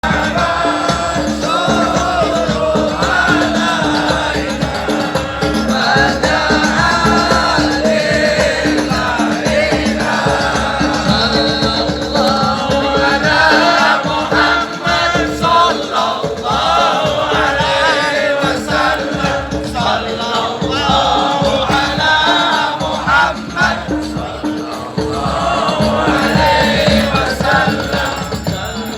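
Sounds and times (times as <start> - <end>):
many voices singing devotional song: 0.0 - 28.9.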